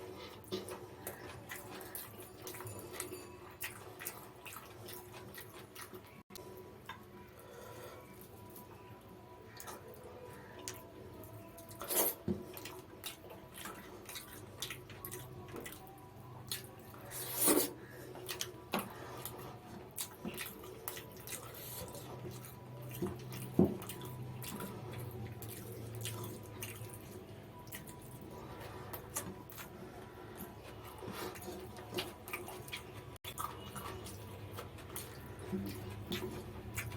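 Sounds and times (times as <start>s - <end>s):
chewing: 0.0s - 7.1s, 8.1s - 36.9s.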